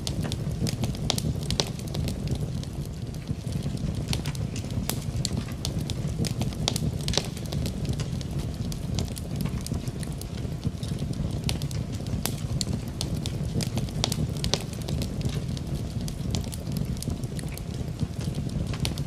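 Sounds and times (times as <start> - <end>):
rain falling: 0.0 - 19.0
wood fire crackling and popping: 0.0 - 19.0.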